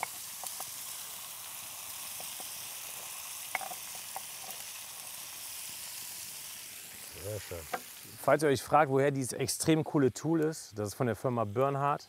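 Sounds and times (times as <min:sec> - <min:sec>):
meat sizzling in oil: 0:00.0 - 0:11.8.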